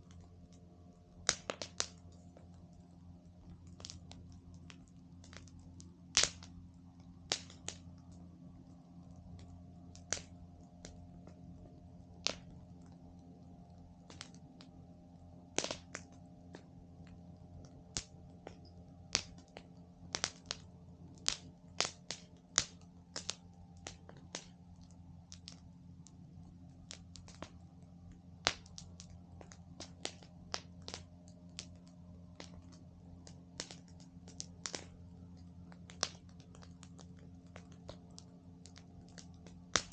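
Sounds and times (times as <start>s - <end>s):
campfire crackling and popping: 0.0s - 39.9s
steady low hum: 0.0s - 39.9s.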